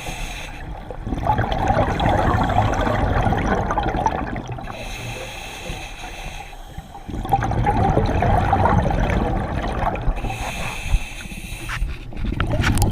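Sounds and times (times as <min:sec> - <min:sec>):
underwater bubbles gurgling: 0:00.0 - 0:12.9.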